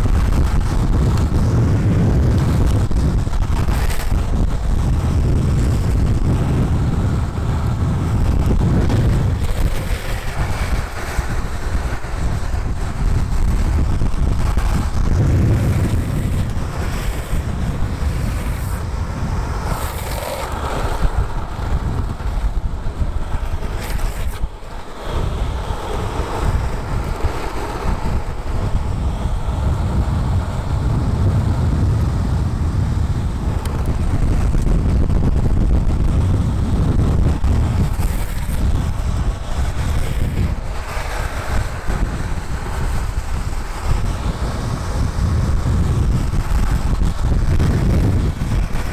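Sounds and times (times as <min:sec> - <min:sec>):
skateboard wheels rolling on asphalt: 0:00.0 - 0:48.9
wind rushing over microphone: 0:00.0 - 0:48.9.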